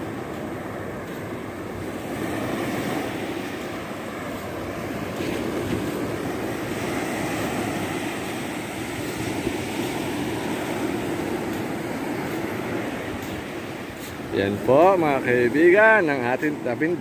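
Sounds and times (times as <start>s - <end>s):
surf breaking on shore: 0.0s - 17.0s.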